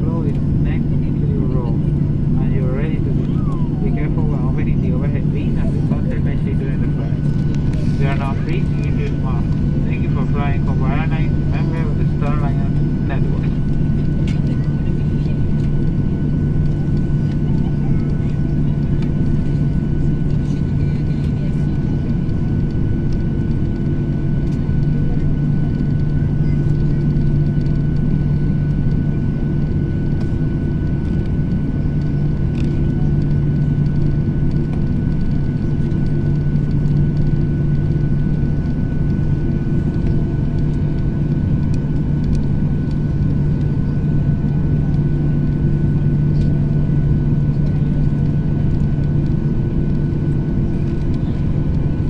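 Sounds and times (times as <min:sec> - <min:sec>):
jet engines idling hum: 0:00.0 - 0:52.0.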